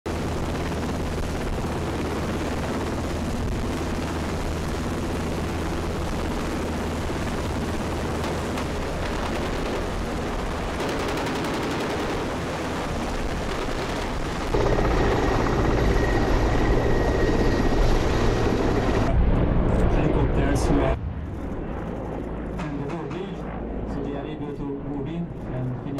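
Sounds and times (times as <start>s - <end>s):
helicopter rotors chopping: 0.1s - 25.9s
helicopter turbine whine: 0.1s - 25.9s.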